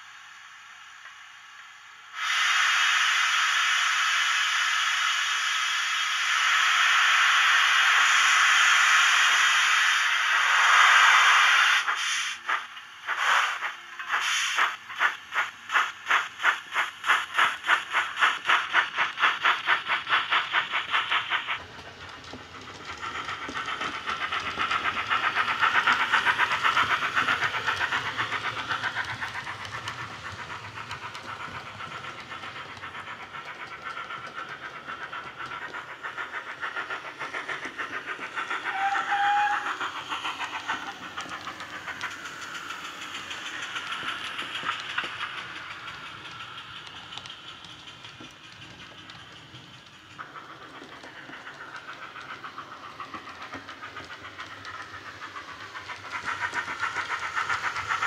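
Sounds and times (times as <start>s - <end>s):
model steam engine chuffing: 2.5s - 58.0s.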